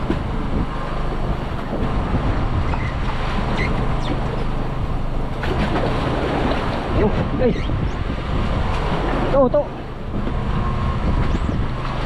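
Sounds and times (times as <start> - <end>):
boat engine humming: 0.0 - 12.0
water washing against hull: 0.0 - 12.0.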